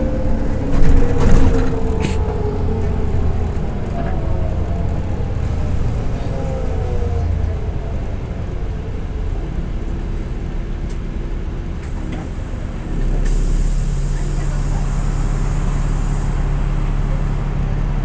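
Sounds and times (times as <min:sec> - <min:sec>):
bus drivetrain whine: 0:00.0 - 0:18.0
bus engine rumbling: 0:00.0 - 0:18.0.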